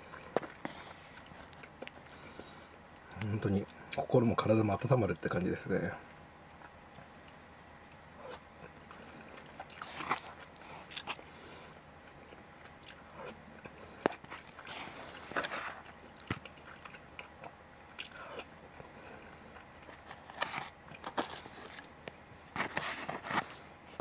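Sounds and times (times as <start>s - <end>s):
person chewing food: 0.0s - 3.4s, 6.1s - 24.0s.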